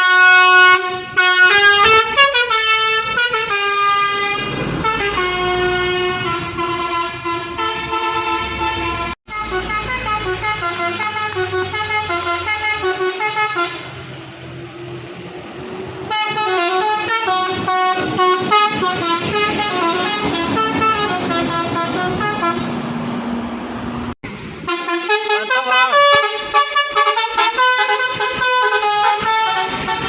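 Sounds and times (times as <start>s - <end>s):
bus musical horn melody: 0.0s - 14.1s, 16.1s - 23.0s, 24.3s - 30.0s.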